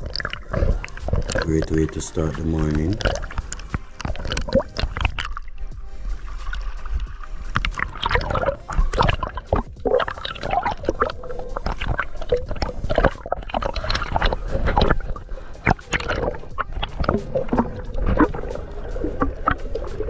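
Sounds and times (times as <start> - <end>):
water gurgling and sloshing: 0.0 - 20.0.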